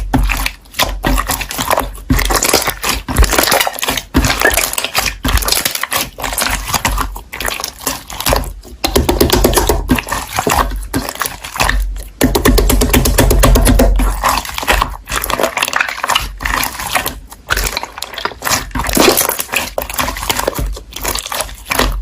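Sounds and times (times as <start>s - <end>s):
slime squishing and popping: 0.0s - 22.0s.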